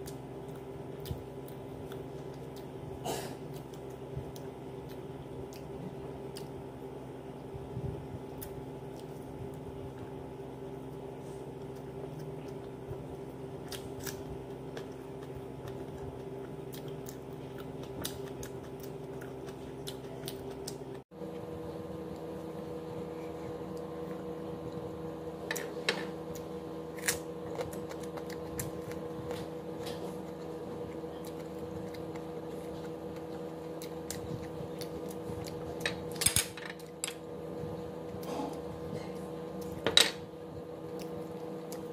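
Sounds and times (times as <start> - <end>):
chewing and eating by hand: 0.0 - 36.2, 36.8 - 39.8, 40.4 - 41.9
steady low hum: 0.0 - 41.9.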